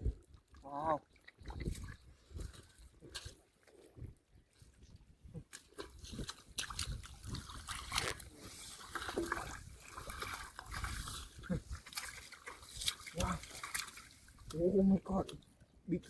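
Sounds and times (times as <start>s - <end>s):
splashing in muddy water: 0.0s - 16.0s.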